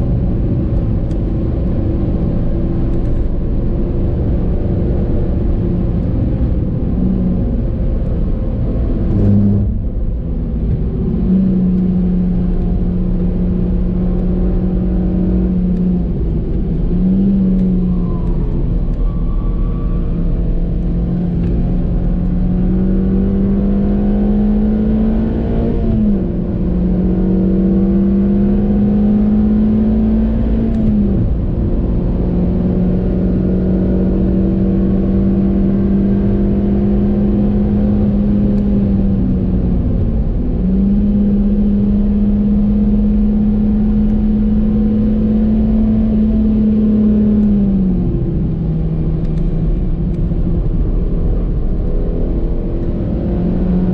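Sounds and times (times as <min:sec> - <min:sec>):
road and wind noise: 0:00.0 - 0:53.9
car engine revving high: 0:06.8 - 0:53.9.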